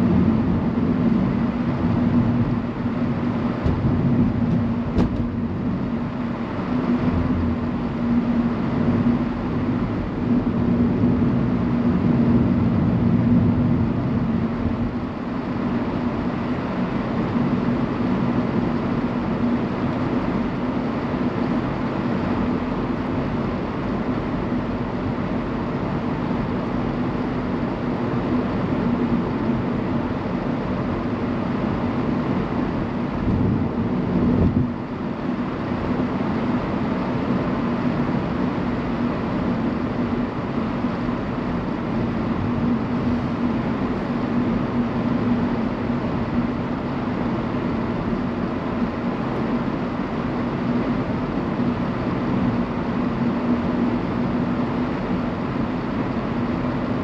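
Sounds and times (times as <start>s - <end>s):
car tyre and engine noise: 0.0s - 57.0s.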